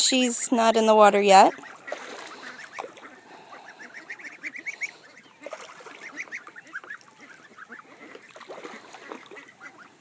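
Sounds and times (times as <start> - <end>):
goslings peeping: 0.1 - 10.0.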